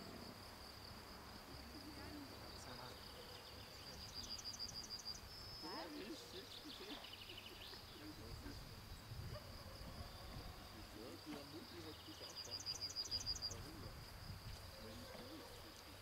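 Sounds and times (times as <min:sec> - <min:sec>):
insect chirps: 0:00.0 - 0:16.0
insects trilling: 0:00.0 - 0:16.0.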